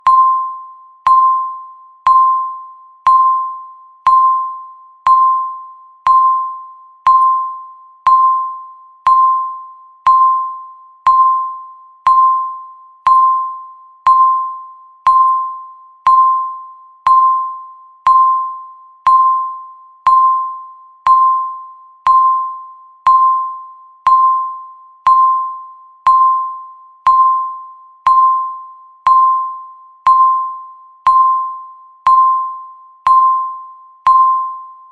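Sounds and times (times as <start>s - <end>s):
bell-like timer beeps: 0.0s - 34.9s.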